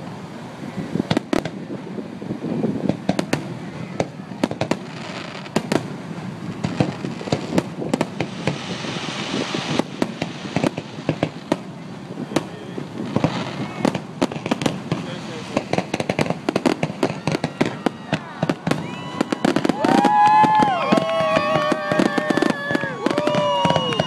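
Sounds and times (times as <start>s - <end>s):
fireworks bursting with sharp bangs: 0.0s - 24.0s
rapid pops and hiss: 1.0s - 1.7s, 2.8s - 24.0s.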